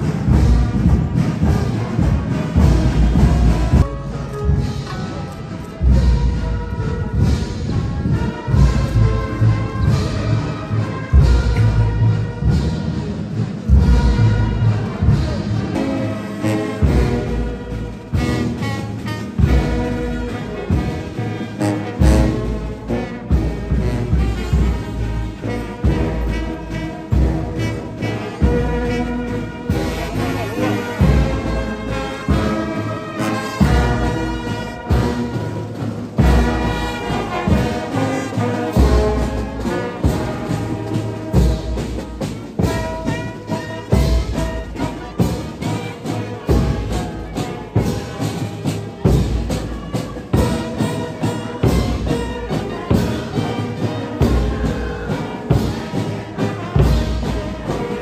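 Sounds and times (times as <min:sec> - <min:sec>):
orchestral music with brass: 0:00.0 - 0:58.0.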